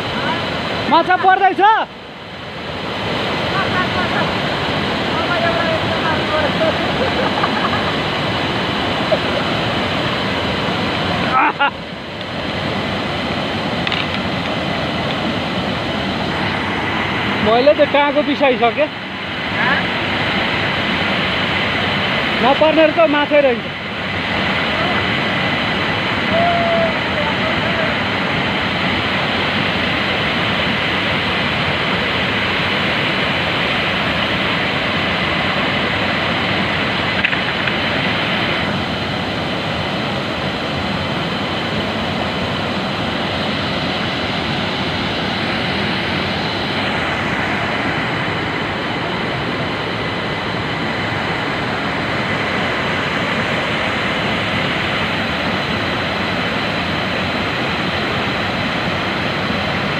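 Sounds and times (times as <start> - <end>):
waterfall and rapids rushing: 0.0 - 59.9.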